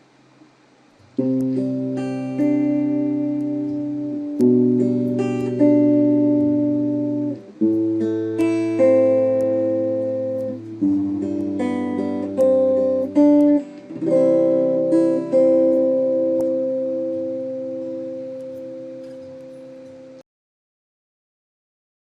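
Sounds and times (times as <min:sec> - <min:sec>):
acoustic guitar strumming chords: 0:01.0 - 0:20.2.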